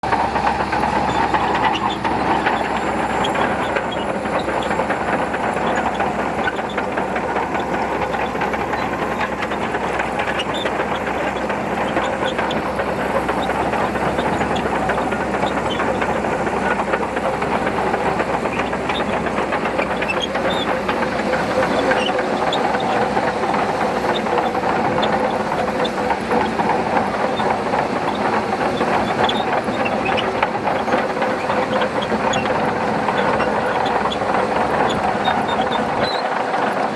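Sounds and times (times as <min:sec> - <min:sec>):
clanking tracks rattle: 0:00.0 - 0:36.9
diesel engine drone: 0:00.0 - 0:36.9.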